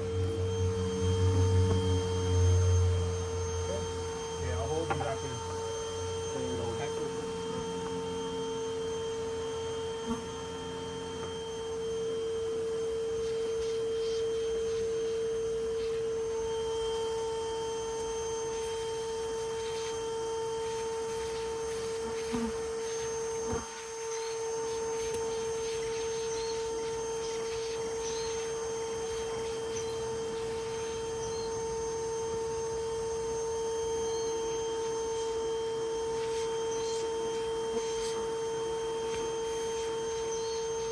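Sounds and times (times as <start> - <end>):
vacuum motor high whine: 0.0 - 40.9.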